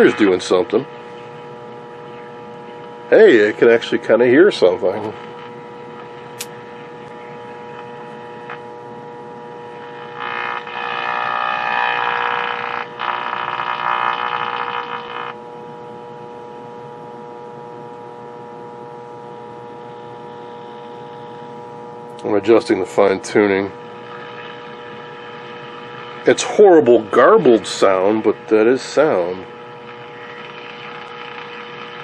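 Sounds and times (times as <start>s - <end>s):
television speaker hum: 0.0s - 32.0s.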